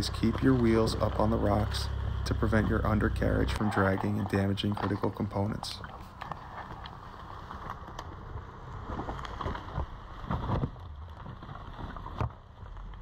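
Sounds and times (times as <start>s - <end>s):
engine running low: 0.0s - 13.0s
tyres crunching on leaves and stones: 0.0s - 13.0s.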